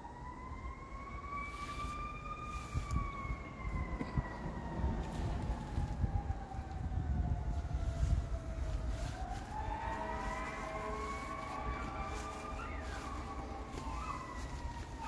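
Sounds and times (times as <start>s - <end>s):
distant siren wailing: 0.0s - 15.0s.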